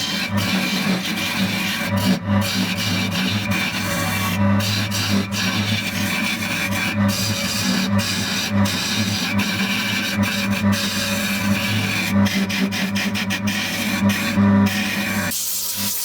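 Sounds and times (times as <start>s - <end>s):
abrasive scraping on wood: 0.0s - 15.3s.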